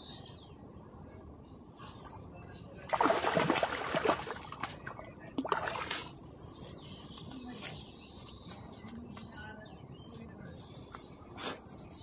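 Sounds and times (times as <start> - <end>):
birds chirping: 1.7 - 12.0.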